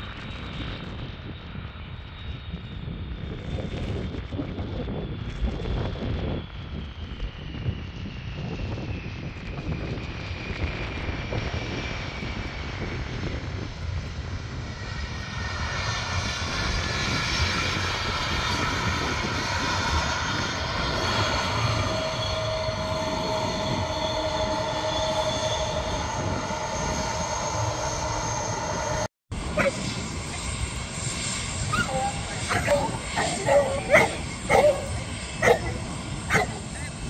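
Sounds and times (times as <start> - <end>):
jet engines rumbling and whining: 0.0 - 37.0.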